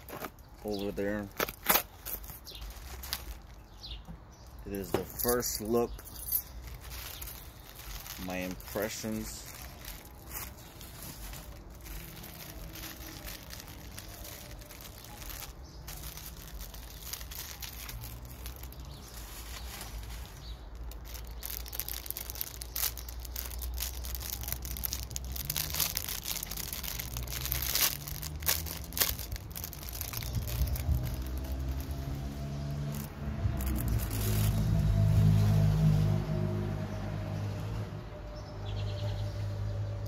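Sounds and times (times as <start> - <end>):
plastic bubble-wrap crinkling: 0.0 - 35.1.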